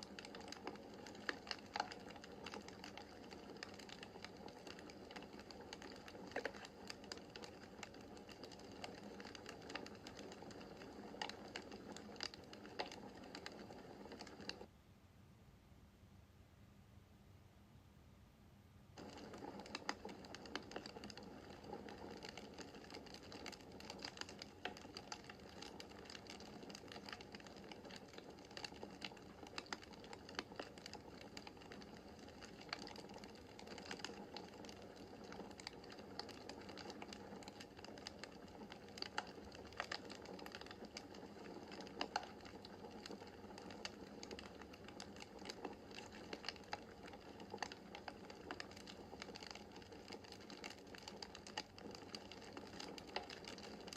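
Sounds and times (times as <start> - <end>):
wood fire crackling: 0.0 - 14.7, 19.0 - 53.9.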